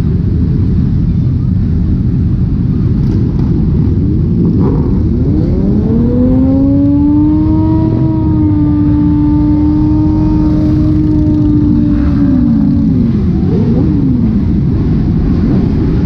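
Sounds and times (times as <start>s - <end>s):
motorcycle engines rumbling: 0.0s - 16.0s
motorcycle engine revving: 3.0s - 16.0s.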